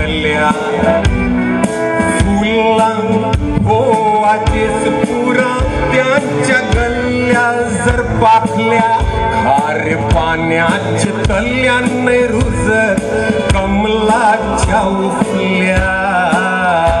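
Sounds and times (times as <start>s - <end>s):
instrumental backing music: 0.0s - 17.0s
man singing into a microphone: 0.0s - 17.0s.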